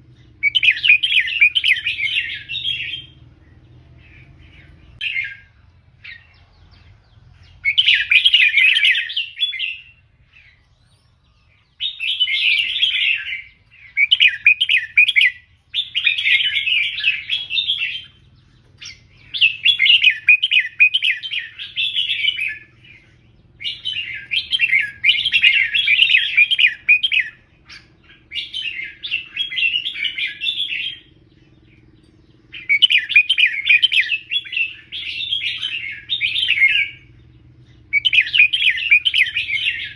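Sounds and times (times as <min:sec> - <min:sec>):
bird warbling: 0:00.0 - 0:03.3, 0:04.0 - 0:39.9.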